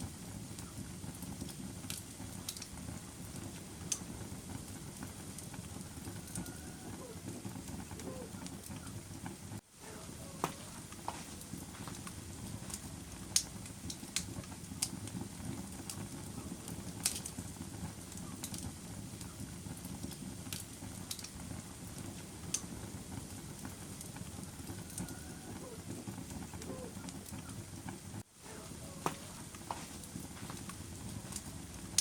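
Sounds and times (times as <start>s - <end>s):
fire burning in fireplace: 0.0s - 32.0s
fire crackles and pops: 0.0s - 32.0s.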